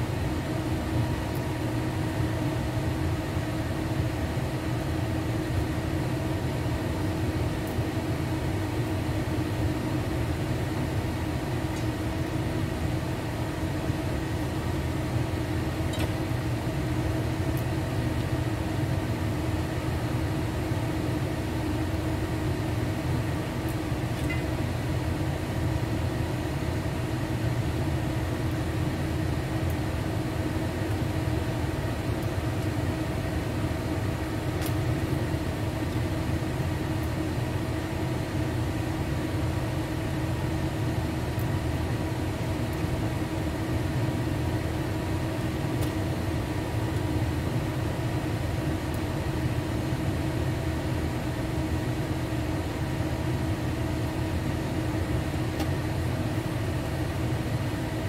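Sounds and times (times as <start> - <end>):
extractor fan whirring: 0.0 - 58.0.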